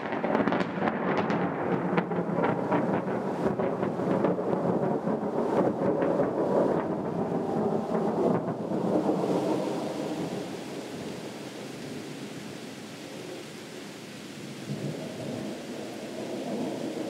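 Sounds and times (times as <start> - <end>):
distant thunder rumbling: 0.0 - 13.4, 14.4 - 17.0.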